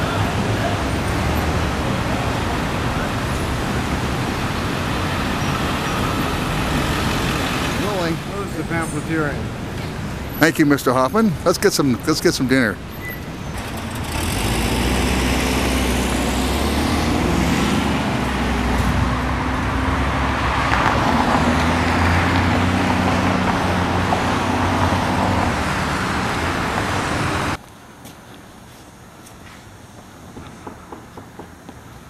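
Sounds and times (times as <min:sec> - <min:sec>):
vehicle engine drone: 0:00.0 - 0:27.6
road noise hiss: 0:00.0 - 0:32.0.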